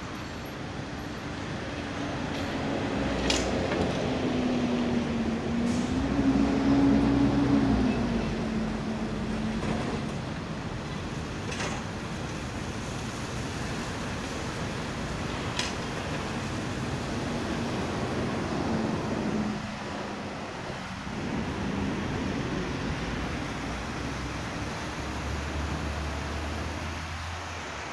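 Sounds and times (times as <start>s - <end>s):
city street traffic: 0.0s - 27.9s.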